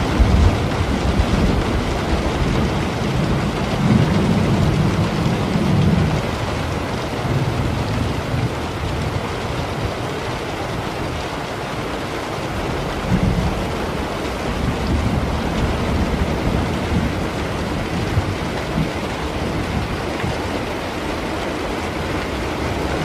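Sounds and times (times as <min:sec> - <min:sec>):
low rolling thunder: 0:00.0 - 0:11.4, 0:12.5 - 0:23.0
heavy rain: 0:00.0 - 0:23.0.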